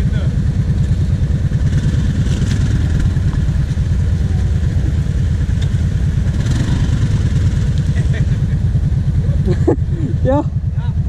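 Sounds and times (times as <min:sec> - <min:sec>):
quad engine idling: 0:00.0 - 0:11.0.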